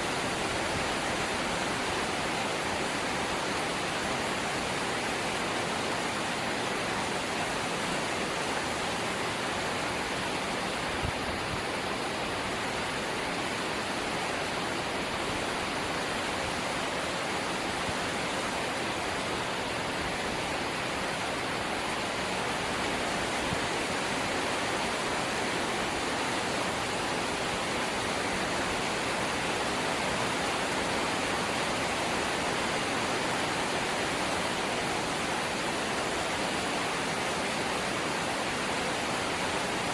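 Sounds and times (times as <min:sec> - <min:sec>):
light rain hiss: 0:00.0 - 0:39.9.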